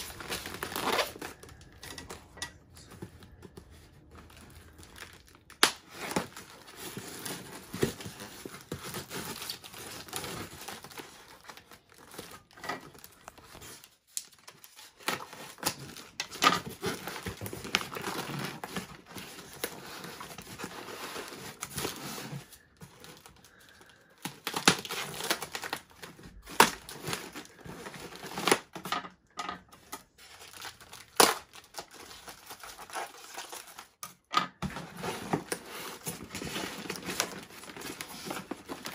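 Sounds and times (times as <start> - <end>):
packing tape tearing and crinkling: 0.0 - 29.0, 29.7 - 38.9.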